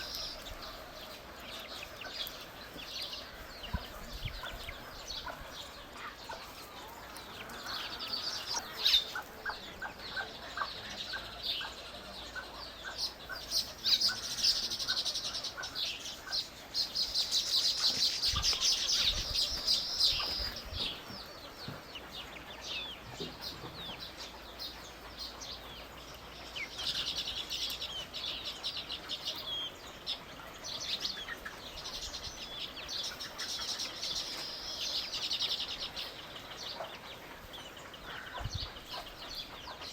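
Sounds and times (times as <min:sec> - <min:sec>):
lower evenly spaced bird notes: 0:00.0 - 0:39.9
songbirds chirping and twittering: 0:00.0 - 0:39.9.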